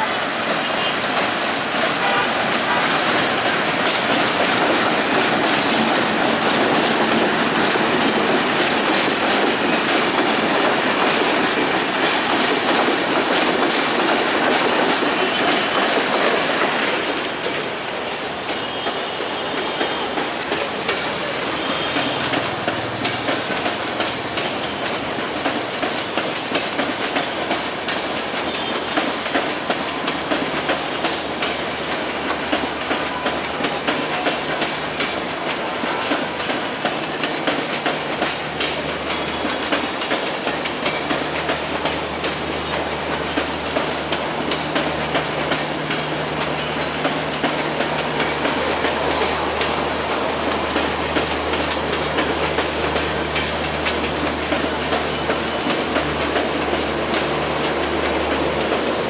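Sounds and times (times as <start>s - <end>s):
diesel locomotive rumble: 0.0s - 29.0s, 29.7s - 59.0s
wheels clicking over rail joints: 0.0s - 59.0s.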